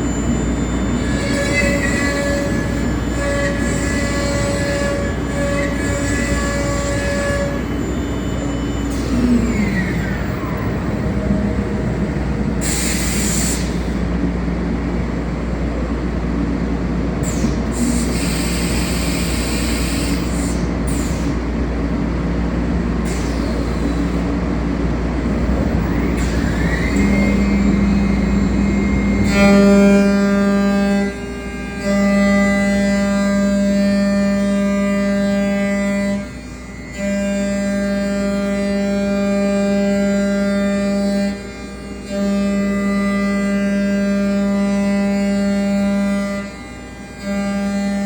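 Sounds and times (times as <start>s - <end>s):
motor whines sliding in pitch: 0.0s - 14.5s, 17.2s - 48.0s
cnc router running: 0.0s - 48.0s
loud pitched whine: 0.0s - 48.0s.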